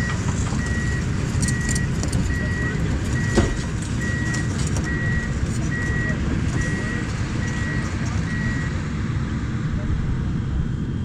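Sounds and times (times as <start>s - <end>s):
travel alarm beeping: 0.0s - 8.8s
diesel engine running: 0.0s - 11.0s.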